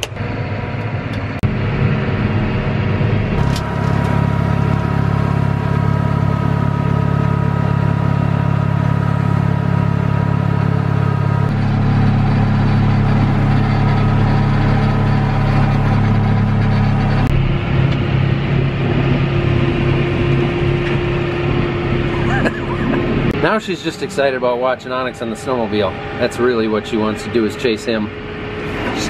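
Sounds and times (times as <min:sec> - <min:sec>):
tractor engine drone: 0:00.0 - 0:29.0.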